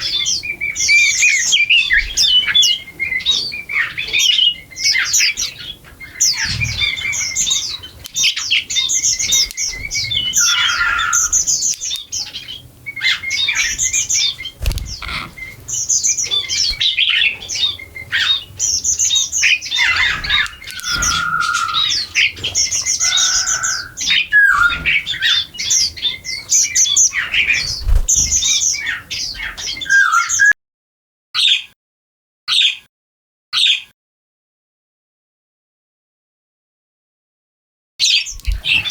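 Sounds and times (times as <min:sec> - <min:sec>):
small birds chirping: 0:00.0 - 0:30.6, 0:31.4 - 0:31.7, 0:32.5 - 0:32.9, 0:33.6 - 0:33.9, 0:38.0 - 0:38.9.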